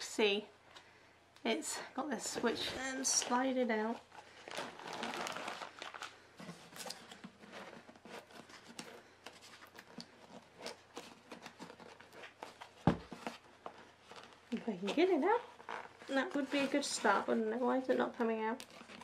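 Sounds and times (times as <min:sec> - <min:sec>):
plastic wrap and paper crinkling: 0:02.2 - 0:19.0.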